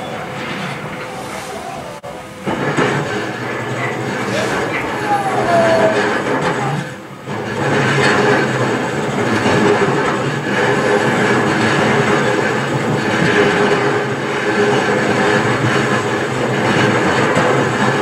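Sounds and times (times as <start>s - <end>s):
constant train hum: 0.0s - 18.0s
train wheels rumbling on rail: 0.0s - 18.0s.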